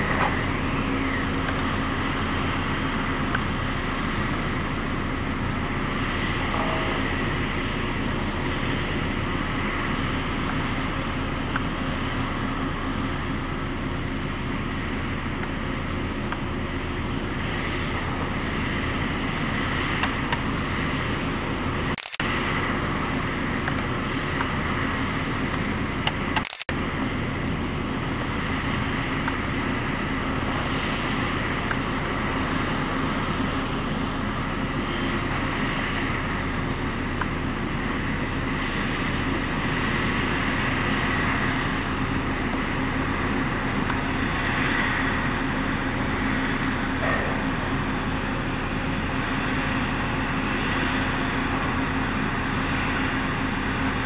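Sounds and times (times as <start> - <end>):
drilling rig machinery drone: 0.0 - 54.0.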